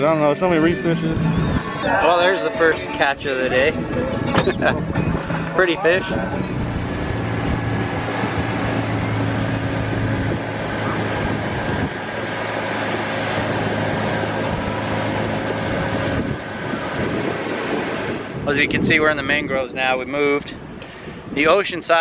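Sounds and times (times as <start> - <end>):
motorboat engine running: 0.0 - 19.5
wind and water rushing: 0.4 - 22.0.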